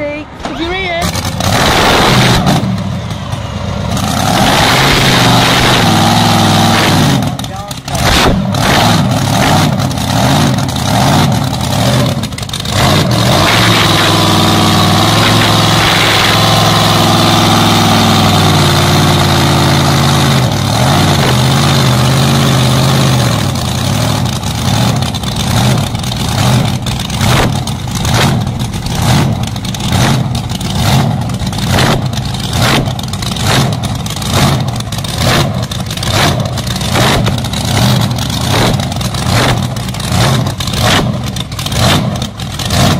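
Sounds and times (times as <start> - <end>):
dragster engines running: 0.0 - 42.9.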